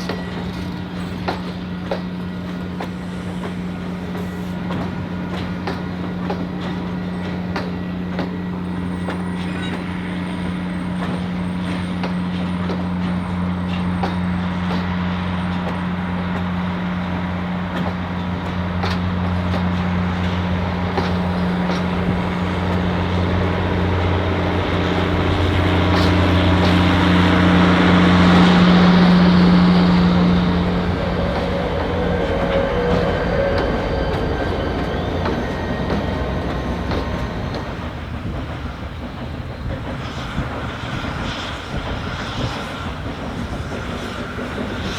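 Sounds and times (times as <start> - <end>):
sharp clicks of train: 0.0 - 44.9
train low hum: 0.0 - 44.9.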